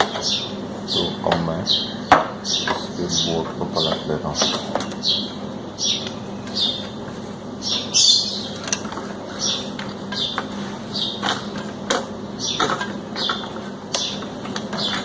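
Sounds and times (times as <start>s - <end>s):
bird chirping: 0.0s - 7.0s, 7.6s - 8.7s, 9.3s - 11.2s, 12.4s - 15.0s.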